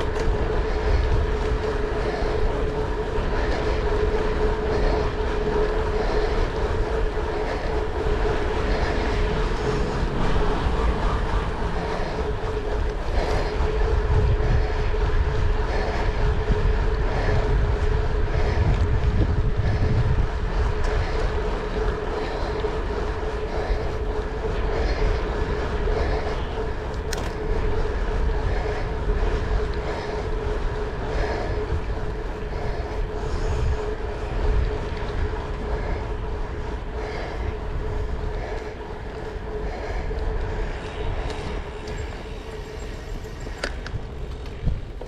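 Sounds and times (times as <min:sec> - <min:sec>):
vehicle engine rumble: 0:00.0 - 0:45.0.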